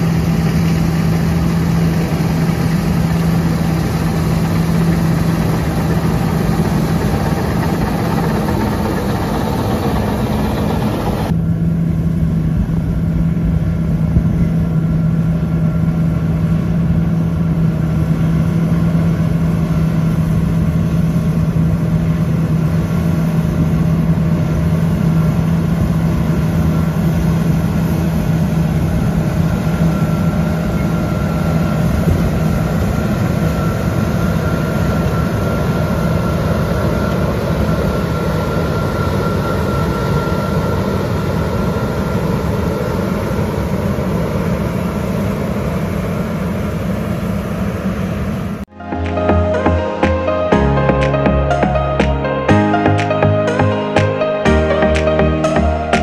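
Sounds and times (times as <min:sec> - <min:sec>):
combine harvester engine drone: 0:00.0 - 0:56.0
high steady machine whine: 0:00.0 - 0:56.0.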